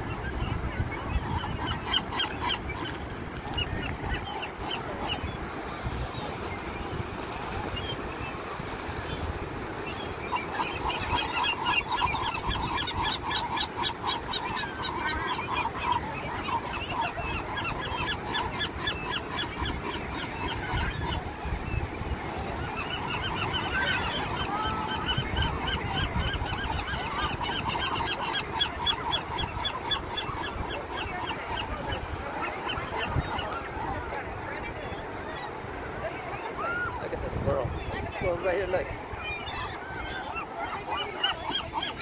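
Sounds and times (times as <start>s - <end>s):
gulls calling: 0.0s - 42.0s
surf: 0.0s - 42.0s.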